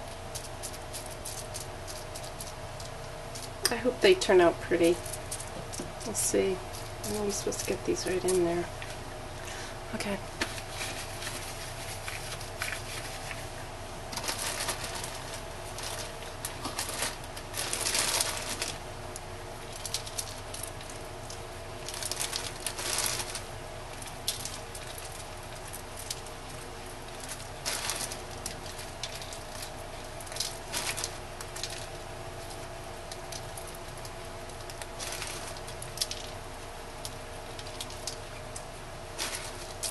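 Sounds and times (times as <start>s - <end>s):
background hum: 0.0s - 39.9s
oats pattering onto soap: 0.0s - 39.9s
plastic bag rustling: 0.0s - 39.9s.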